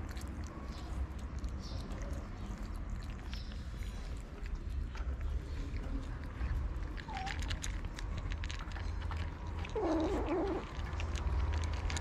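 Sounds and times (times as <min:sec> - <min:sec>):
cats crunching dry kibble: 0:00.0 - 0:12.0.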